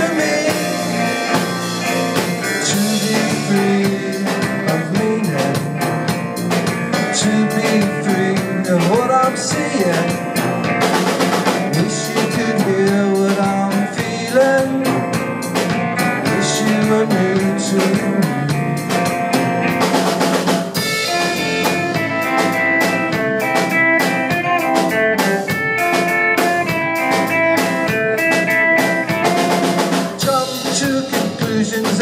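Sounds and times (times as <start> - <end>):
drum kit with rimshots: 0.0 - 32.0
electric guitar: 0.0 - 32.0.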